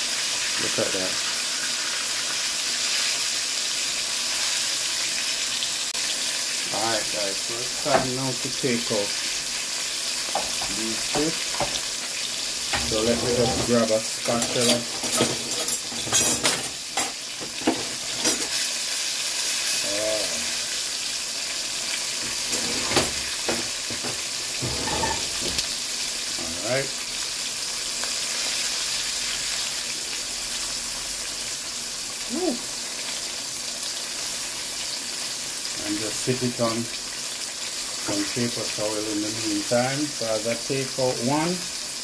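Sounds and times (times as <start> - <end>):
fish deep-frying in oil: 0.0 - 42.0.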